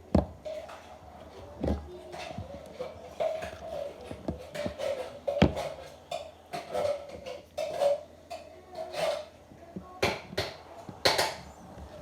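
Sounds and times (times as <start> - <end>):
spoon stirring slime: 0.2 - 12.0.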